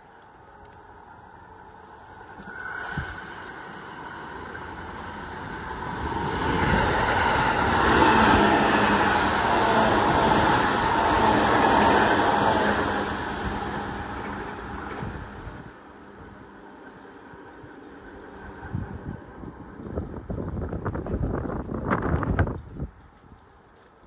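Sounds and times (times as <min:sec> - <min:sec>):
electric train passing at speed: 0:00.0 - 0:24.0.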